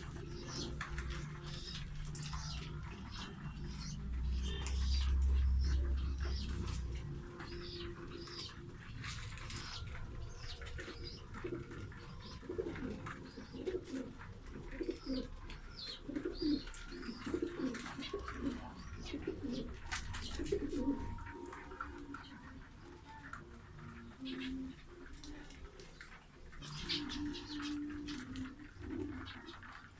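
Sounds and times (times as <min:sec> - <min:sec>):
pigeons cooing: 0:00.0 - 0:29.9
small birds chirping: 0:00.0 - 0:29.9.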